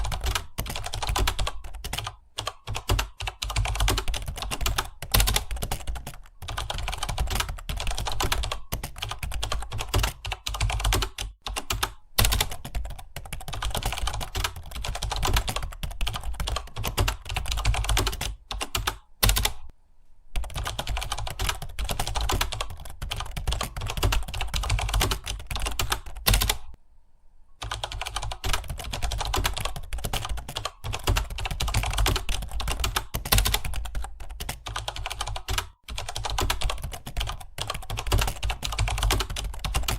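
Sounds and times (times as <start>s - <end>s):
typing on computer keyboard: 0.0s - 19.7s, 20.4s - 26.8s, 27.6s - 39.9s.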